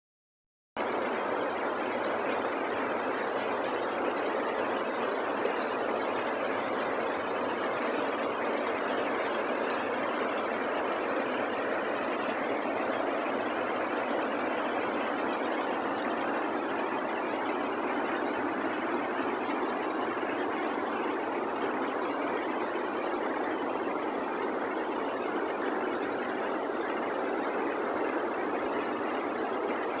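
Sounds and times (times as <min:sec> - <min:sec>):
waterfall rushing: 0:00.9 - 0:30.0.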